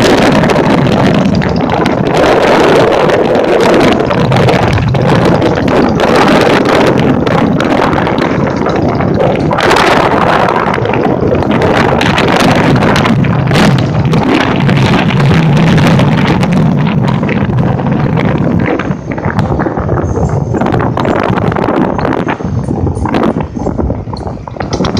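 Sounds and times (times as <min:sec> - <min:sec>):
knocks and rattles: 0:00.0 - 0:24.9
motorcycle engine running: 0:00.0 - 0:24.9
wind buffeting microphone: 0:00.0 - 0:24.9.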